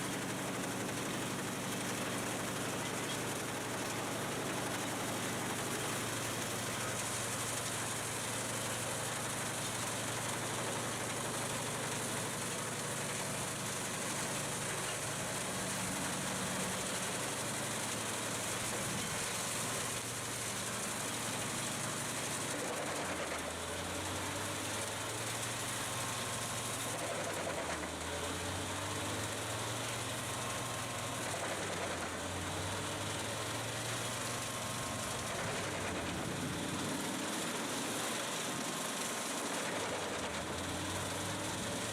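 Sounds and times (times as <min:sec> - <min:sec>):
heavy machine engine under load: 0:00.1 - 0:41.9.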